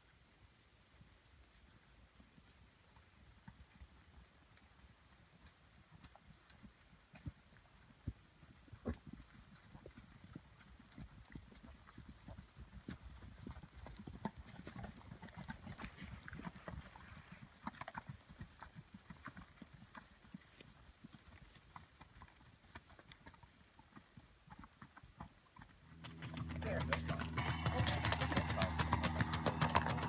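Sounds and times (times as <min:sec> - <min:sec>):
horse hooves clip-clopping on dirt: 0:00.0 - 0:30.0.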